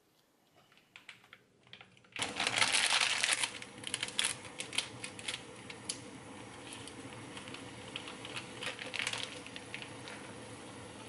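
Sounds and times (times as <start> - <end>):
water boiling in pot: 1.0 - 11.0.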